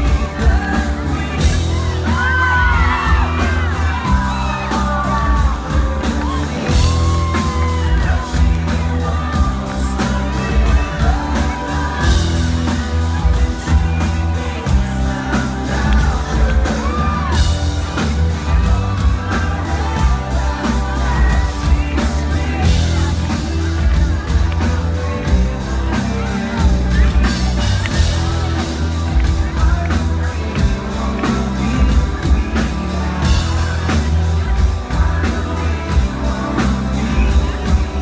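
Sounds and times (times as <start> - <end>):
crowd whooping and shouting: 0.0 - 38.0
live rock band: 0.0 - 38.0
male lead singer: 0.0 - 38.0.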